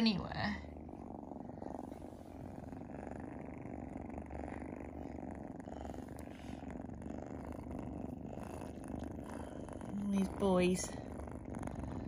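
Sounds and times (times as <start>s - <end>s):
cats purring: 0.0s - 12.0s.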